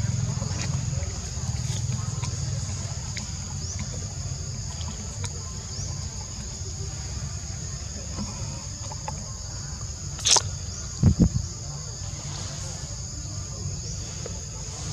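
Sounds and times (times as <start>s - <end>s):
insects droning: 0.0s - 14.9s.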